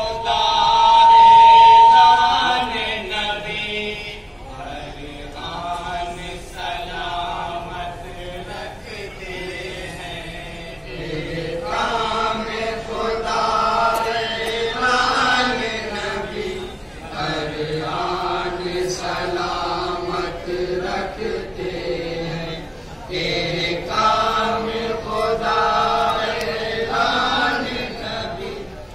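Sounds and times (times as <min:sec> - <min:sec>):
men chanting in unison: 0:01.9 - 0:28.8.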